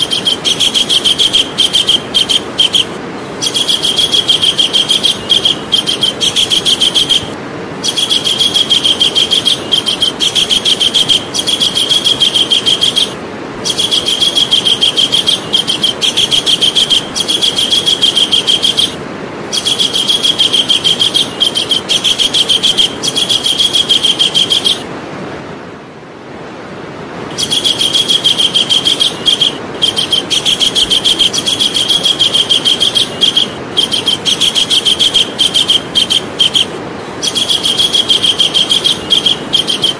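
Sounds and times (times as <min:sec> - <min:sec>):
kingfisher chattering trill: 0:00.0 - 0:24.9, 0:27.3 - 0:39.9
steady hiss: 0:00.0 - 0:39.9.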